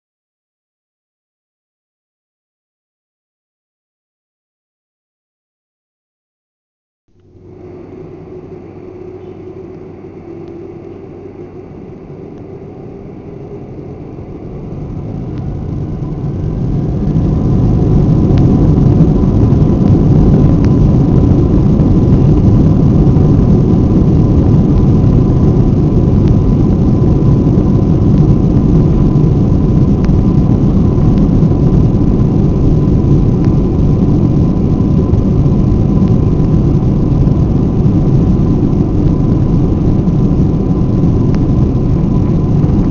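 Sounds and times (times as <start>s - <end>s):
faint steady whine: 7.1s - 42.9s
jet engines roaring: 7.2s - 42.9s.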